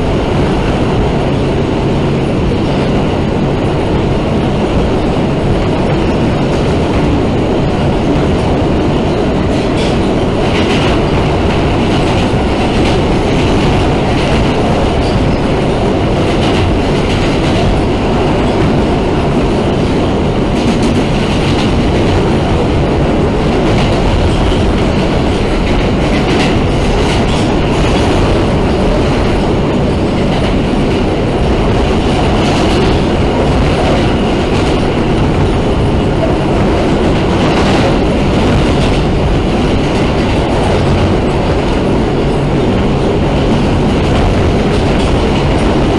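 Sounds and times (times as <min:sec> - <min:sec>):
subway car rumbling: 0:00.0 - 0:45.9
wheels clacking over rail joints: 0:00.0 - 0:45.9.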